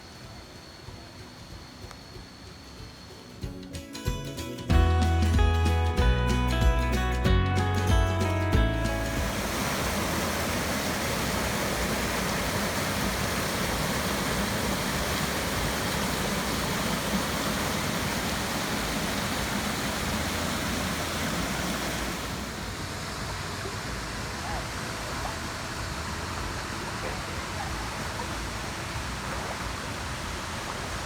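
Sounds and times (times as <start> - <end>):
waterfall rushing: 4.8 - 31.0.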